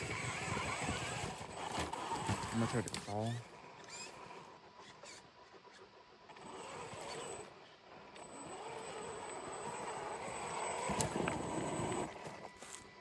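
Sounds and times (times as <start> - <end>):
electric motor whining: 0.0 - 4.4, 6.3 - 7.5, 8.2 - 13.0.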